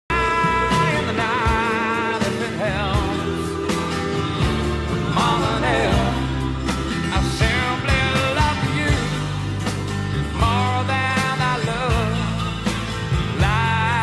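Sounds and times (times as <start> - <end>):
song with vocal bass and drums: 0.1 - 14.0.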